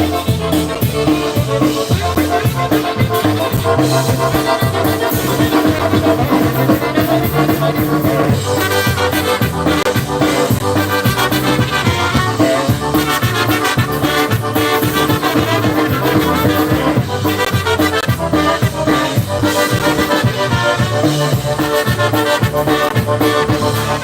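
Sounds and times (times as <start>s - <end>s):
polka band playing: 0.0s - 24.0s.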